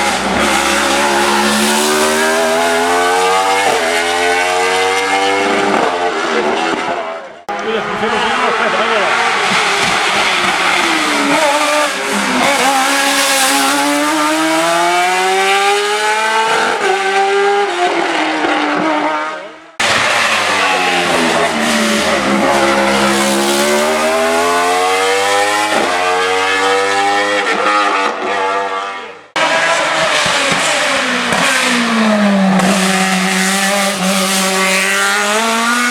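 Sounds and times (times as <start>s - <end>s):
race car engines revving: 0.0s - 35.9s.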